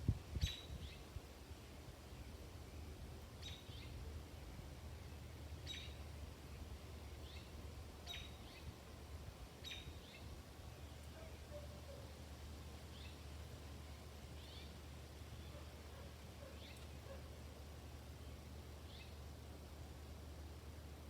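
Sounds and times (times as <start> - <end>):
low suburban background rumble: 0.0 - 21.0
songbird chirping: 0.3 - 20.6.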